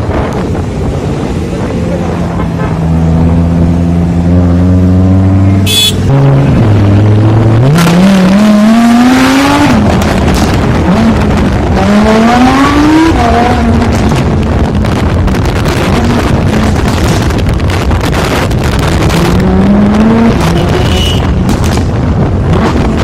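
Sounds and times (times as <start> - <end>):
sports car engine accelerating: 0.0 - 21.1.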